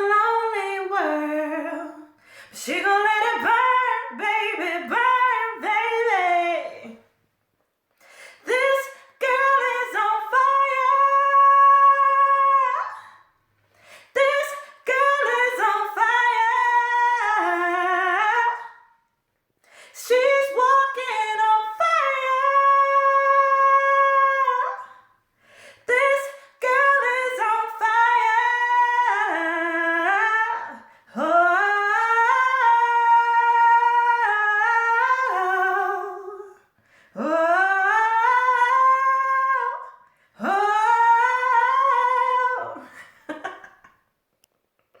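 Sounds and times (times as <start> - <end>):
woman singing unaccompanied: 0.0 - 7.1, 8.3 - 13.2, 14.0 - 18.9, 20.0 - 25.1, 25.8 - 43.5.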